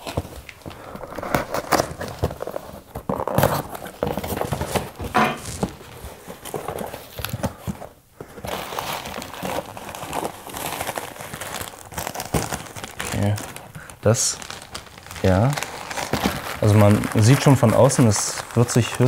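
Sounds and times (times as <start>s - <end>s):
plastic bag crinkling: 0.0s - 7.3s, 8.3s - 19.0s.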